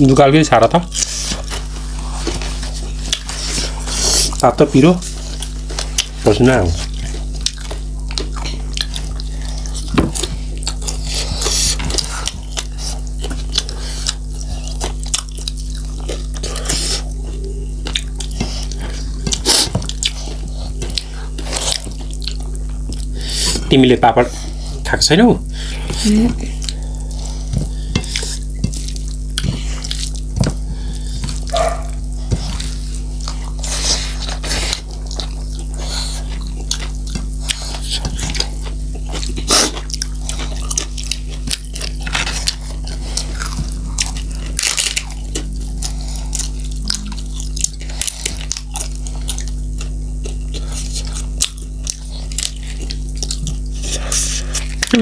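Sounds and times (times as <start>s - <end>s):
steady low hum: 0.0s - 55.0s
chewing and mouth smacks: 0.8s - 4.4s, 5.1s - 23.6s, 26.3s - 26.9s, 27.5s - 55.0s.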